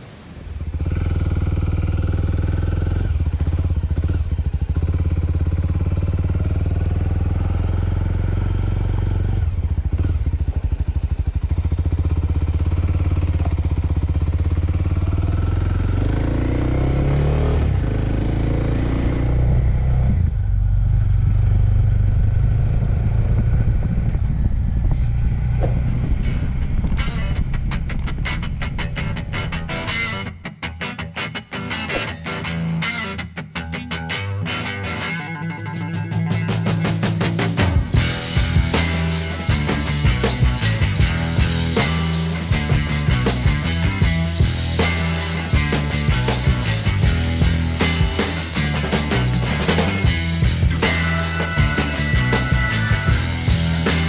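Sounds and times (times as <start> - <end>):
motorcycle engine running: 0.7 - 29.9, 36.2 - 54.0.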